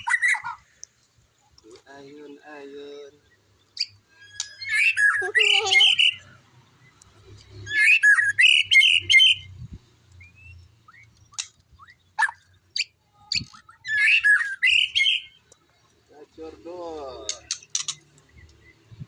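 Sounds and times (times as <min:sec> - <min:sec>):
bird singing rapid phrases: 0:00.0 - 0:19.0.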